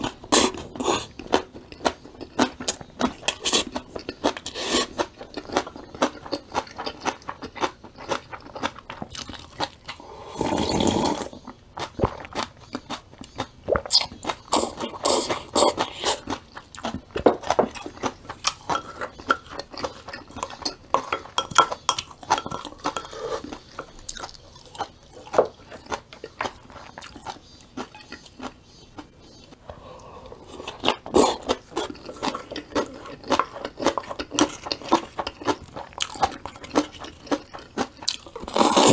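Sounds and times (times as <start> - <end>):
crunching crisp vegetables: 0.0 - 38.9.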